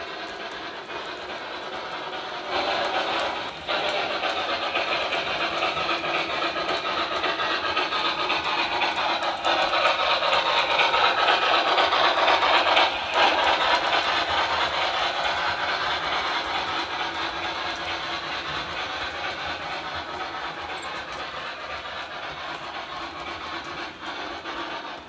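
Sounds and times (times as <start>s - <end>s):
model train wheels clattering on rails: 0.0s - 25.0s.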